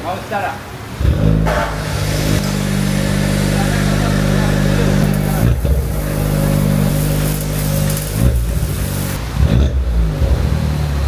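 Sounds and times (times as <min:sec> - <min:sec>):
car engine idling: 0:00.8 - 0:11.0
engine throttle blips: 0:00.9 - 0:11.0.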